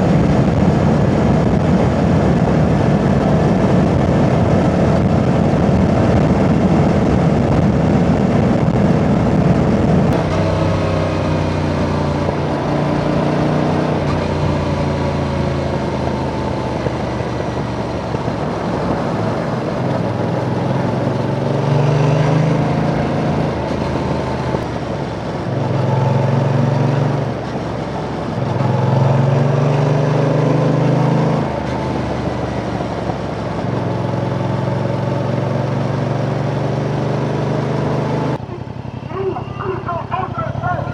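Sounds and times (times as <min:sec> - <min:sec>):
motorcycle engine revving: 0:00.0 - 0:39.9
wind and road noise: 0:00.0 - 0:40.9.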